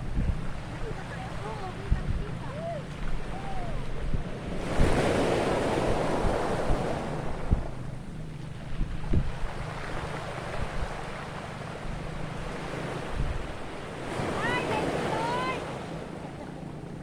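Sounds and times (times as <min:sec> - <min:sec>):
ocean wave washing in: 0:00.0 - 0:08.0, 0:08.6 - 0:17.0
wind buffeting microphone: 0:00.0 - 0:17.0.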